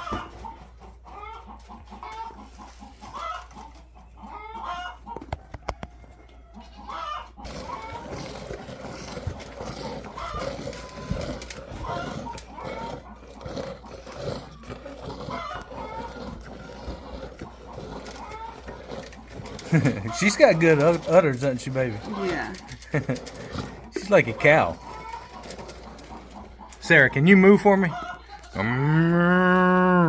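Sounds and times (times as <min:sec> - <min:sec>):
chickens clucking: 0:00.0 - 0:29.3.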